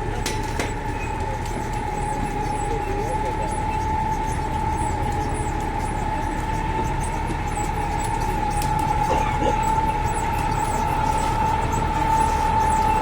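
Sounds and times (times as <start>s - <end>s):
constant whine: 0.0s - 13.0s
rail vehicle rumbling: 0.0s - 13.0s.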